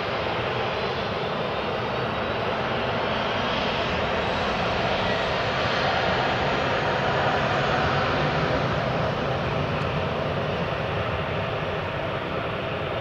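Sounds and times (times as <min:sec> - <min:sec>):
jet engines on runway: 0:00.0 - 0:13.0.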